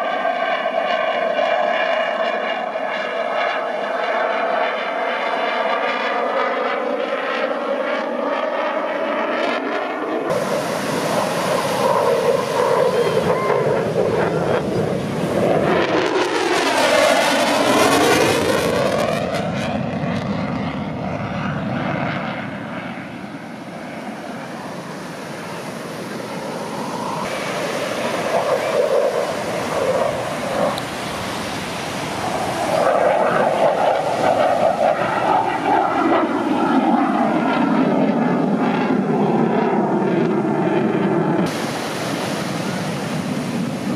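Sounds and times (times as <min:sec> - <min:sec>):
airplane engine droning overhead: 0:00.0 - 0:43.9.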